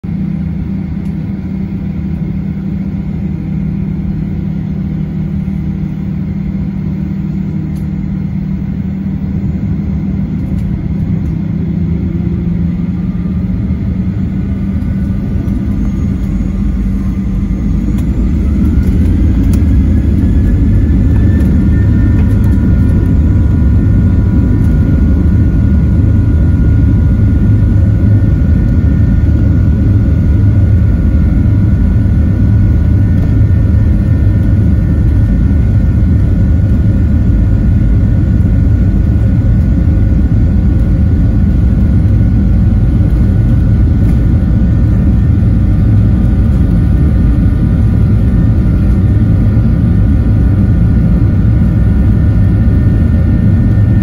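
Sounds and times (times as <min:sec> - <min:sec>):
jet engines heard from cabin: 0:00.0 - 0:54.0.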